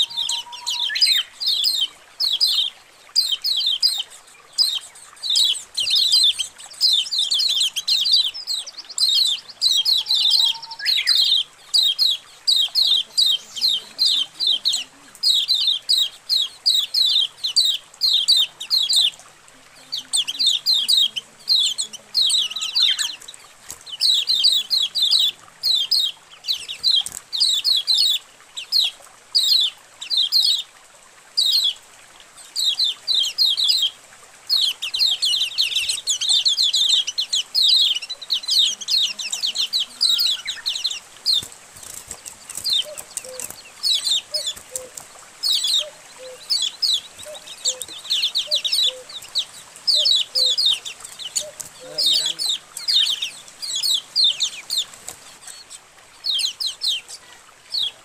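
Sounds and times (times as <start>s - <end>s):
flock of birds chirping: 0.0s - 58.0s.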